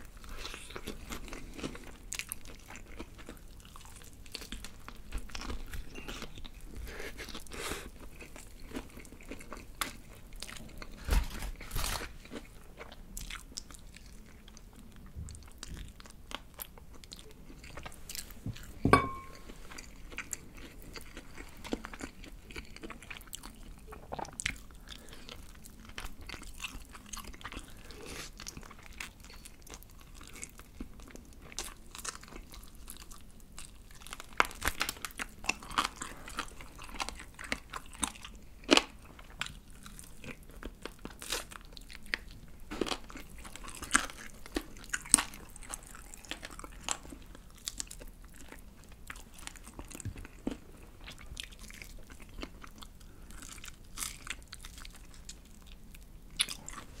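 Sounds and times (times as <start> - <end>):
chewing crispy fried chicken: 0.0 - 18.8, 19.5 - 57.0.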